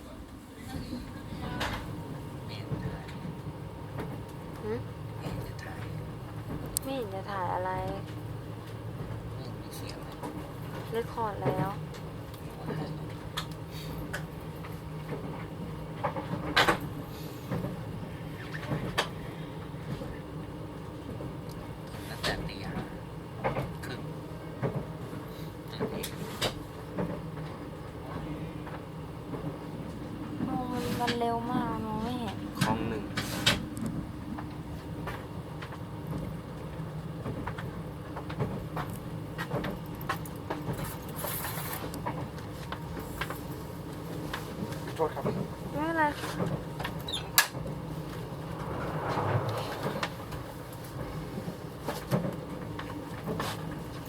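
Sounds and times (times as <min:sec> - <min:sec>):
train carriage hum: 0:00.0 - 0:54.0.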